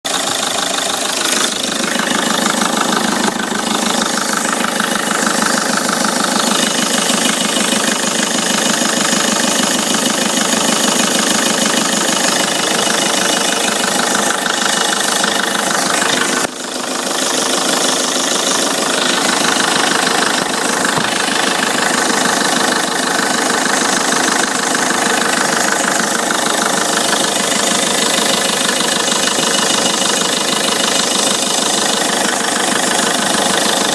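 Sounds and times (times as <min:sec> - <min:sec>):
abnormal engine noise: 0:00.0 - 0:33.9
diesel engine running: 0:00.0 - 0:33.9.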